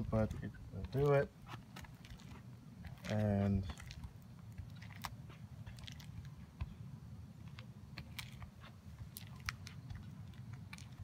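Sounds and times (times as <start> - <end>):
low steady rumble: 0.0 - 11.0
handling clicks and crunches: 0.2 - 6.7, 7.4 - 11.0.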